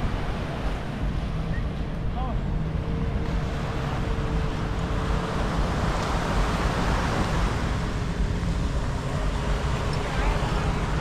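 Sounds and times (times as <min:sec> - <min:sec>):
faint engine hum: 0:00.0 - 0:11.0
wind and surf rumble: 0:00.0 - 0:11.0.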